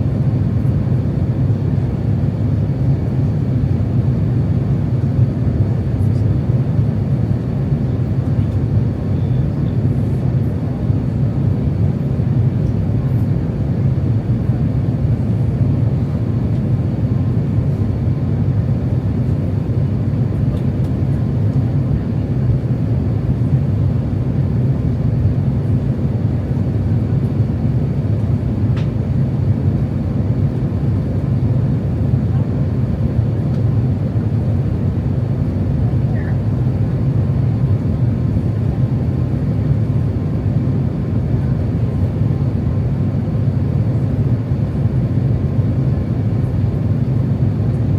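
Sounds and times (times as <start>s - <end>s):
airplane cabin drone: 0.0s - 47.9s.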